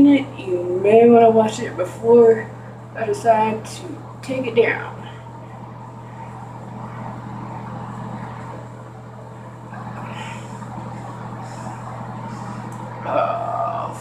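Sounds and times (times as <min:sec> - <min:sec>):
ventilation fan hum: 0:00.0 - 0:14.0.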